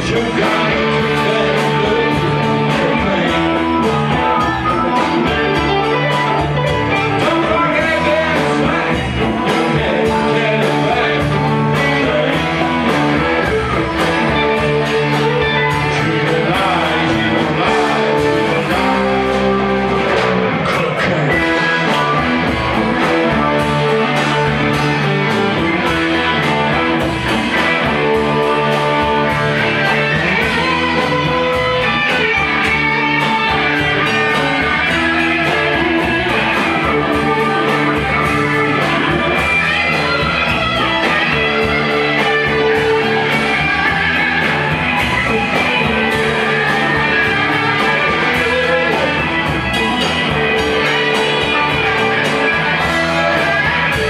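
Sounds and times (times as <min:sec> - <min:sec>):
drums: 0:00.0 - 0:54.0
electric guitars: 0:00.0 - 0:54.0
keyboard: 0:00.0 - 0:54.0.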